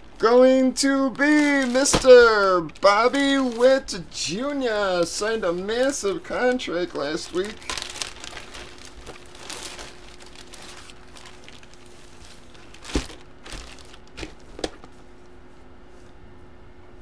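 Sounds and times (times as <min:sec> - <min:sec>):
faint steady hum: 0:00.0 - 0:17.0
plastic packaging crinkling: 0:01.1 - 0:15.0.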